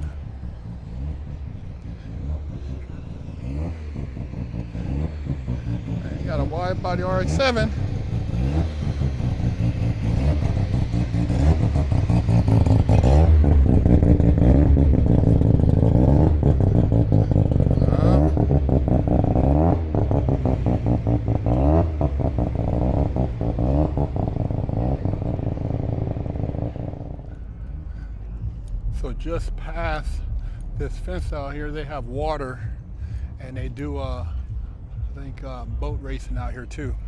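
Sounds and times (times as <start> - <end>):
car engine revving hard: 0.0 - 37.0.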